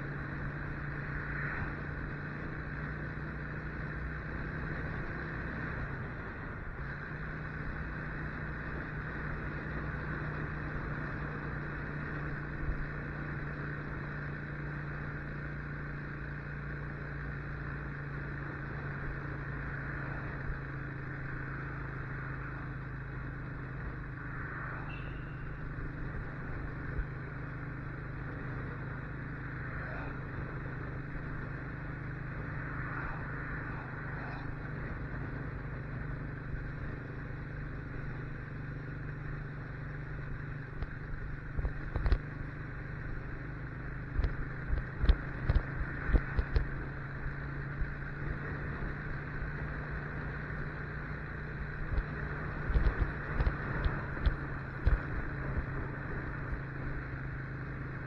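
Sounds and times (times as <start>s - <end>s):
motorcycle engine running: 0.0s - 58.0s
road and air noise: 0.0s - 58.0s.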